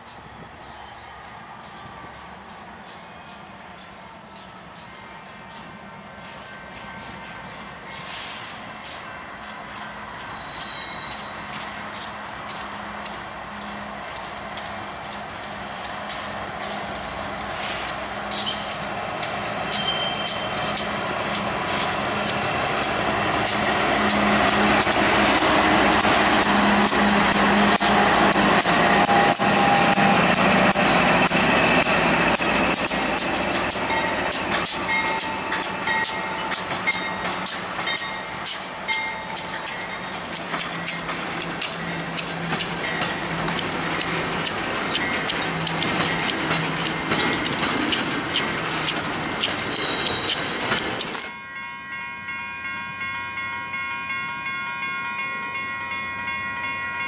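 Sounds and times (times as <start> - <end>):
train wheels clicking on rails: 0.0 - 51.4
diesel locomotive engines: 0.0 - 57.0.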